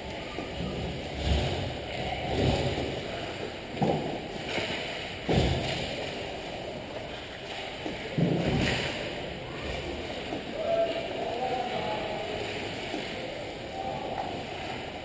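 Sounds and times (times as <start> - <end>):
arena noise: 0.0 - 15.0.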